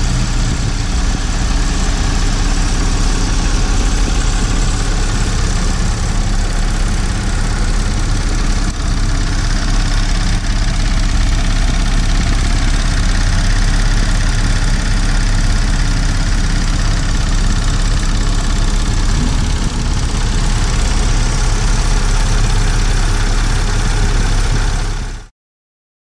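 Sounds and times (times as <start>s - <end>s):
car engine idling: 0.0s - 25.3s.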